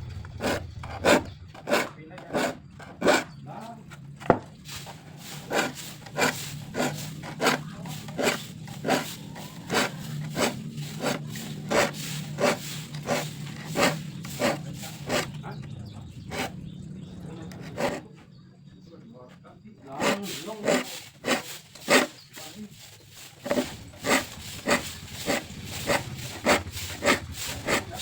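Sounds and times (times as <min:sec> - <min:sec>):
rasping hand-tool strokes: 0:00.0 - 0:16.6, 0:17.4 - 0:18.1, 0:19.8 - 0:28.0.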